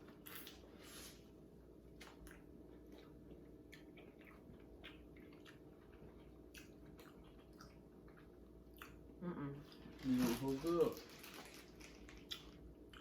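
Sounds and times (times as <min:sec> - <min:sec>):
low room hum: 0:00.0 - 0:13.0
chewing and eating sounds: 0:01.8 - 0:13.0.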